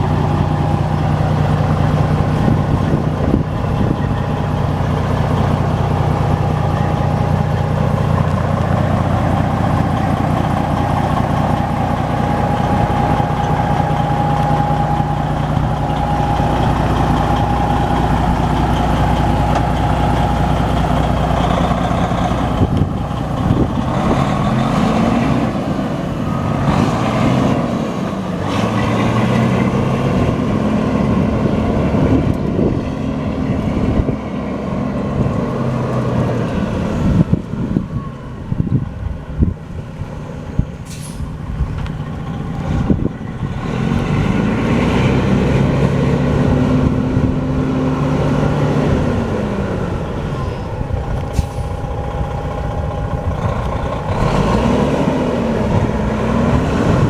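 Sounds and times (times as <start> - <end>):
truck engine idling and revving: 0.0 - 57.0.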